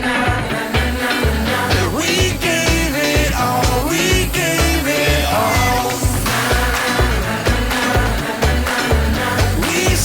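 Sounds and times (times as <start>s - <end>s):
pop song with singing: 0.0s - 10.0s
steady drum beat: 0.0s - 10.0s.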